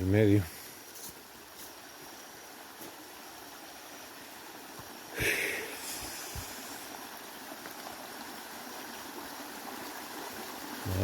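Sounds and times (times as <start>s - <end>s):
stream of water running: 0.0s - 11.0s.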